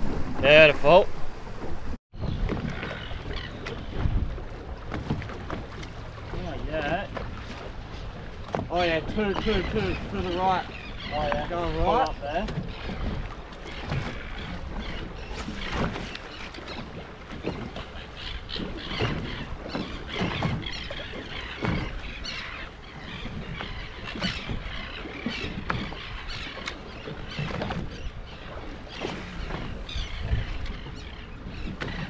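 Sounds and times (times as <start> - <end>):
water splashing: 0.0 - 32.0
wind buffeting microphone: 0.0 - 32.0.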